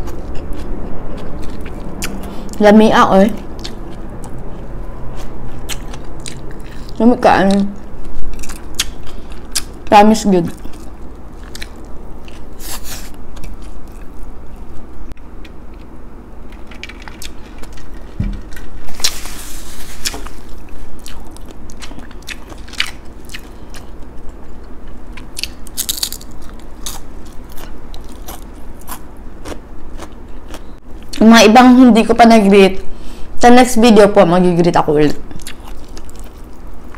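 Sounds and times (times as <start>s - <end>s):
person chewing crunchy food: 0.0s - 2.6s, 3.3s - 31.2s, 35.2s - 36.9s.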